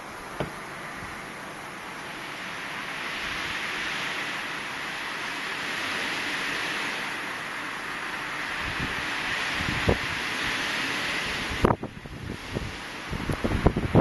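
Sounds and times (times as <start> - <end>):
blizzard wind rushing hiss: 0.0 - 14.0.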